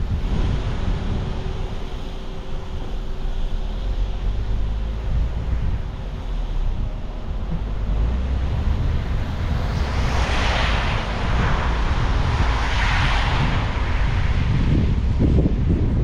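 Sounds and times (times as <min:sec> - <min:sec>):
rushing wind hiss: 0:00.0 - 0:16.0
wind buffeting microphone: 0:00.0 - 0:16.0.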